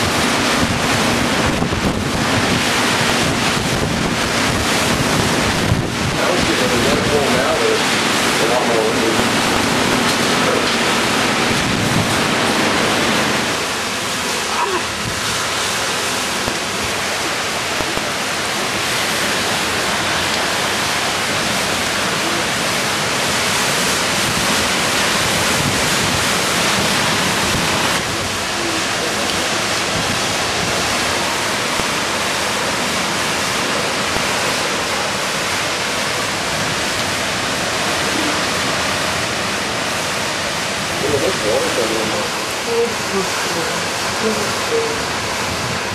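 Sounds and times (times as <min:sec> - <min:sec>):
heavy rain: 0:00.0 - 0:45.9
strong wind: 0:00.0 - 0:45.9.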